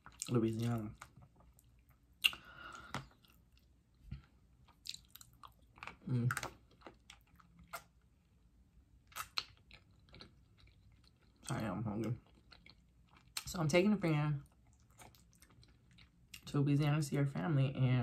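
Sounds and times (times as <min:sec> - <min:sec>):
chewing meat with wet smacks: 0:00.0 - 0:08.1, 0:09.0 - 0:13.6, 0:14.4 - 0:16.5.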